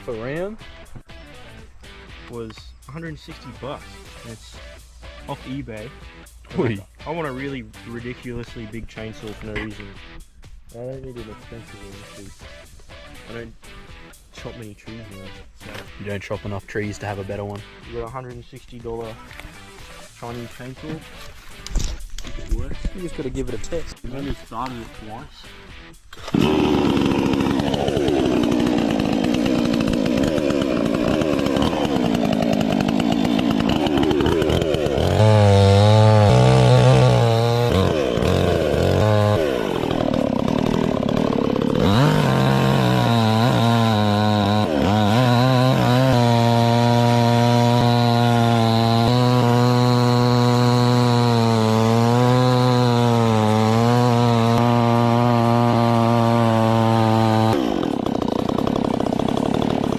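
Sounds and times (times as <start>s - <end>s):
chainsaw revving and idling: 0.0s - 2.4s, 3.4s - 10.2s, 11.1s - 21.6s, 24.2s - 59.9s.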